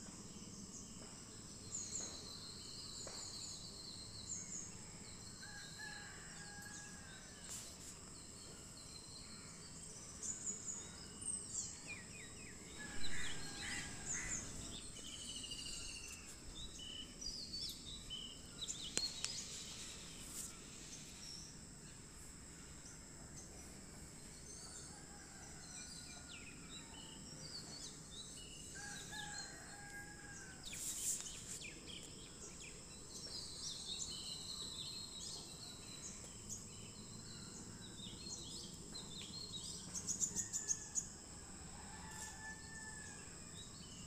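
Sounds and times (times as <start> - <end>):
steady high-pitched hiss: 0.0 - 44.0.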